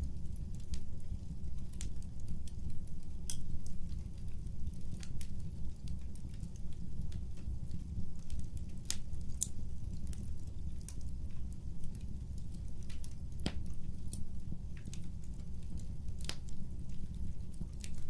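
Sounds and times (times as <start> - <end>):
burning logs crackling and popping: 0.0 - 18.0
wood fire rumbling: 0.0 - 18.0.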